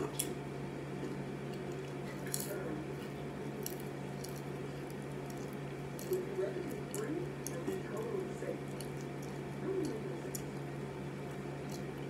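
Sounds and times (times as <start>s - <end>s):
steady low hum: 0.0s - 12.0s
potato chips crunching: 1.0s - 12.0s.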